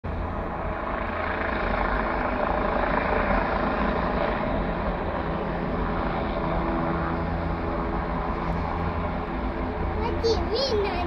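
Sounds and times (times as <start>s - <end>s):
helicopter engine and rotor: 0.1s - 11.0s.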